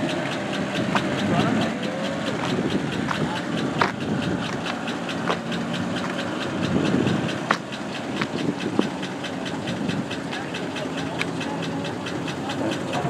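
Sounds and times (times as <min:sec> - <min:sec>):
engine idling: 0:00.0 - 0:13.0
fast regular engine ticking: 0:00.0 - 0:13.0
sharp engine knocks: 0:00.0 - 0:13.0.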